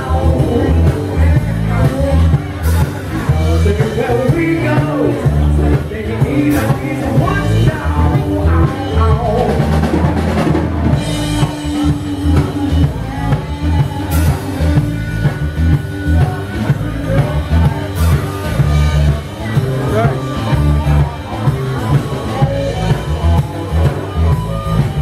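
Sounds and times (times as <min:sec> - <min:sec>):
live blues band playing: 0:00.0 - 0:25.0.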